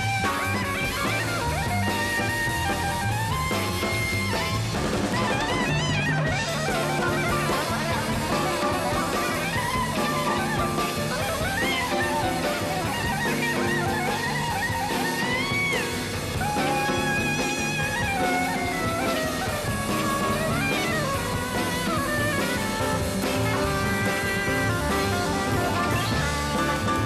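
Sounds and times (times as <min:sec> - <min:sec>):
bass: 0:00.0 - 0:27.0
drums: 0:00.0 - 0:27.0
guitar: 0:00.0 - 0:27.0
soprano saxophone improvising: 0:00.0 - 0:27.0.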